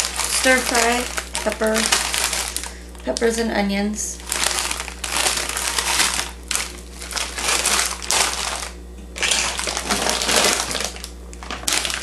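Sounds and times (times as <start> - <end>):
plastic bags crinkling: 0.0 - 3.5, 4.2 - 12.0.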